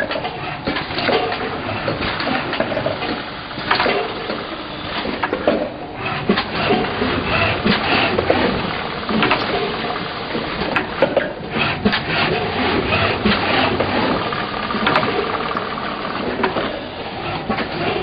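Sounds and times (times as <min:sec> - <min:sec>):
machine conveyor clattering: 0:00.0 - 0:18.0.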